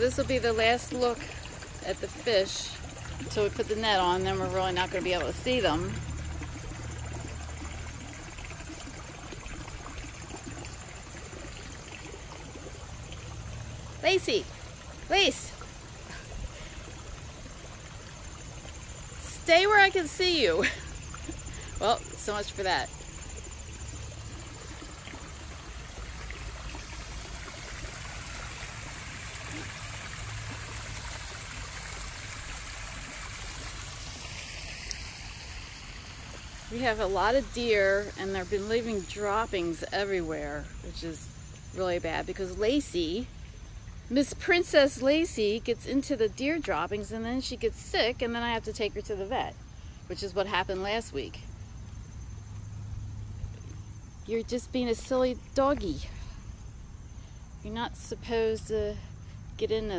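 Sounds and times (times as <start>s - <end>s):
water trickling into pond: 0.0s - 59.9s.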